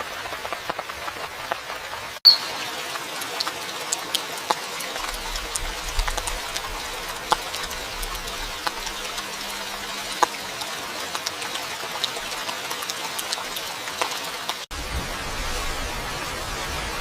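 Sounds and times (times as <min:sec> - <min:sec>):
raindrops tapping close by: 0:00.0 - 0:16.6
steady rain falling: 0:00.0 - 0:17.0.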